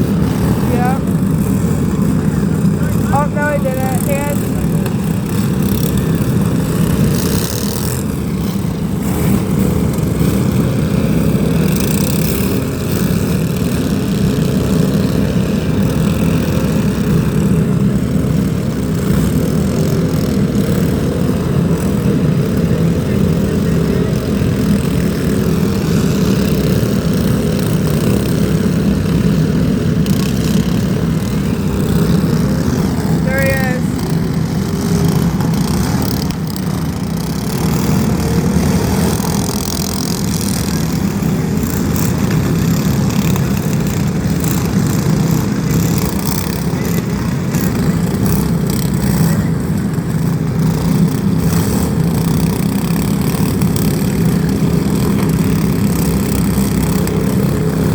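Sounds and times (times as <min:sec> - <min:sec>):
racing engines droning: 0:00.0 - 0:57.9.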